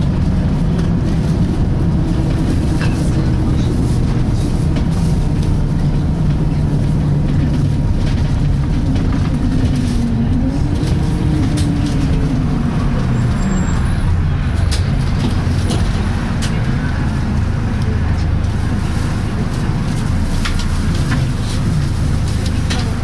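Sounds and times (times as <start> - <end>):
bus body rattles: 0.0 - 23.0
bus drivetrain hum: 0.0 - 23.0.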